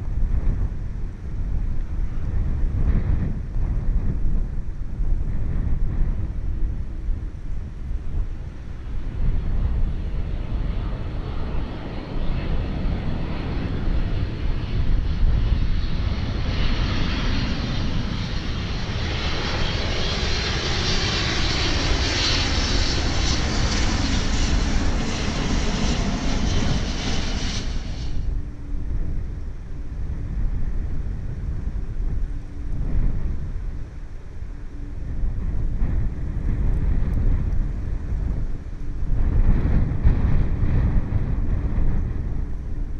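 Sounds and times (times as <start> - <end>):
jet airliner passing overhead: 0.0 - 42.9.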